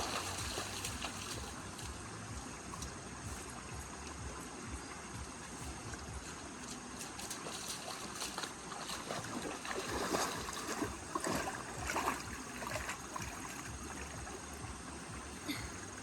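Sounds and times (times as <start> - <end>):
floodwater running: 0.0 - 16.0
water splashes: 0.0 - 16.0.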